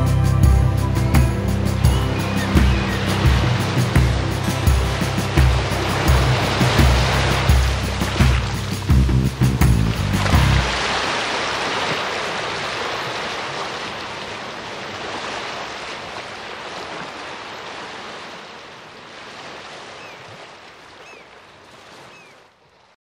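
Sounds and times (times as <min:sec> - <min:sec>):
surf washing on rocky shore: 0:01.5 - 0:22.1.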